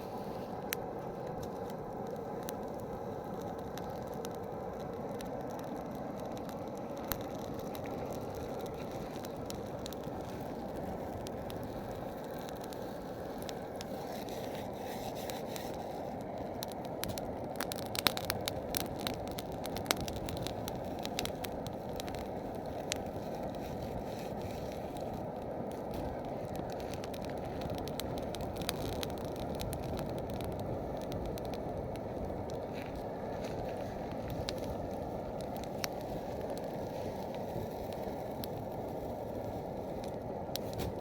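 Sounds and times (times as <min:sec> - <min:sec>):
campfire flames rushing: 0:00.0 - 0:41.0
wood crackling and popping: 0:00.0 - 0:41.0.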